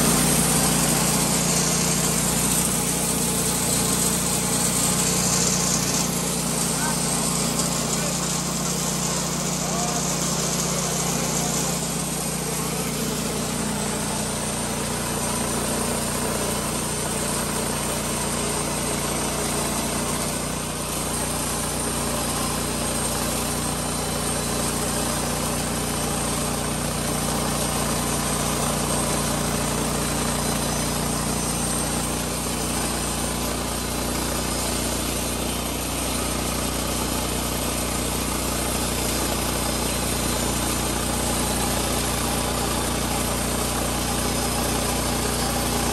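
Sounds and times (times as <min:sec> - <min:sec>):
saw blade cutting timber: 0:00.0 - 0:45.9
sawmill engine running: 0:00.0 - 0:45.9.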